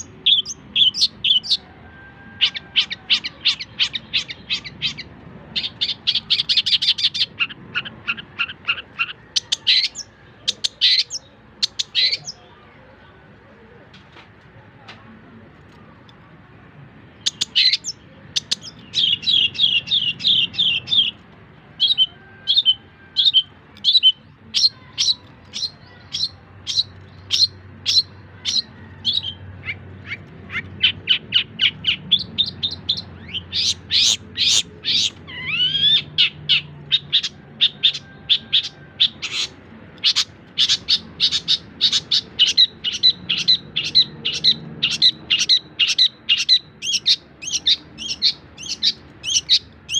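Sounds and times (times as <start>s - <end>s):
bird chirps and trills: 0.0s - 12.6s, 17.1s - 49.9s.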